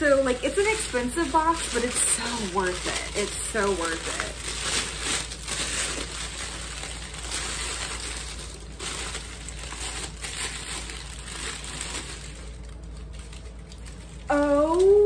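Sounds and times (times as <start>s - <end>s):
shredded paper rustling: 0.0s - 14.8s.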